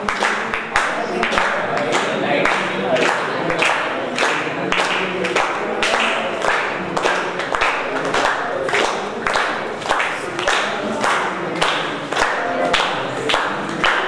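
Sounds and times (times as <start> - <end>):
people clapping in time: 0.0 - 14.0
people singing: 0.0 - 14.0.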